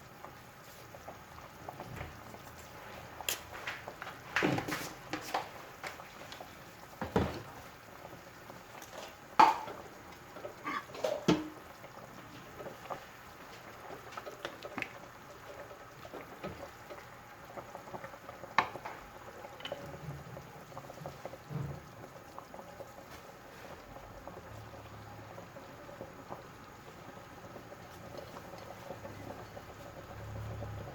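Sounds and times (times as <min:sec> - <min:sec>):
pot bubbling: 0:00.0 - 0:30.9.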